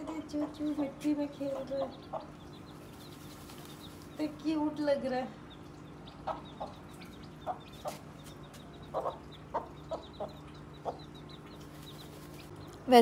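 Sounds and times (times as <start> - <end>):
hen clucking: 0.0 - 4.3, 5.4 - 12.6
chicks peeping: 0.0 - 12.9.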